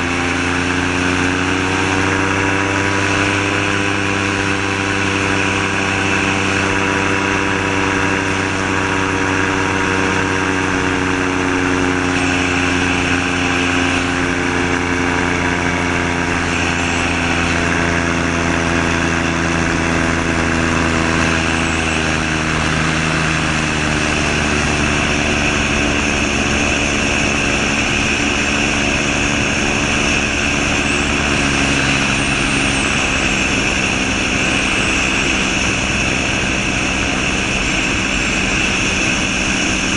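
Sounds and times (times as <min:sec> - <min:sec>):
aircraft engine running: 0:00.0 - 0:39.9
airflow rushing: 0:00.0 - 0:39.9.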